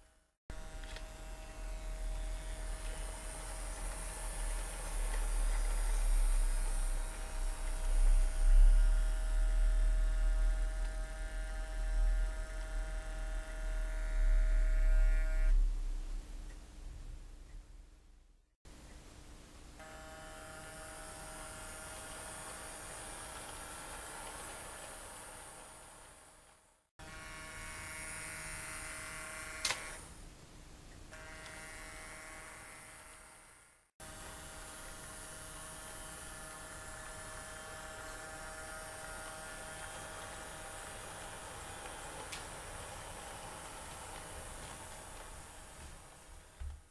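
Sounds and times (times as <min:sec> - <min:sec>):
model locomotive motor whine: 0:00.6 - 0:15.6, 0:19.8 - 0:30.1, 0:31.1 - 0:46.5.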